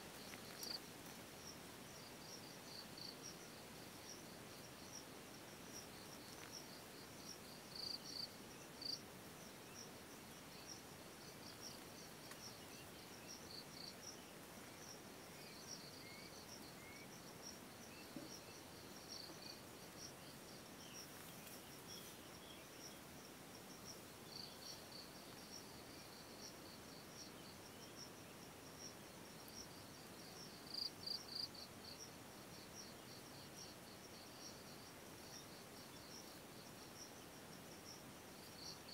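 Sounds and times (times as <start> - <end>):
faint insect chirps: 0.0 - 38.9
insects trilling: 0.0 - 38.9.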